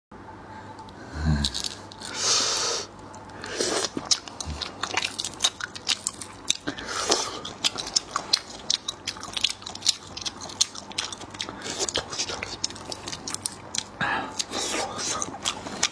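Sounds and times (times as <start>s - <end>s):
wet chewing and crunching: 1.4s - 15.9s.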